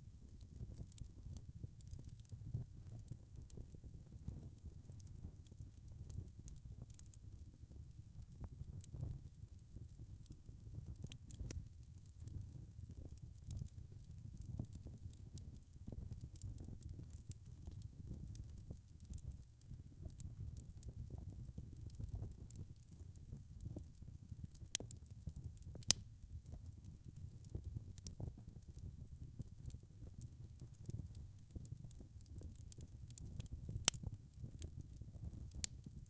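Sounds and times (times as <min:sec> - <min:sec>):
wood fire crackling: 0:00.1 - 0:36.0.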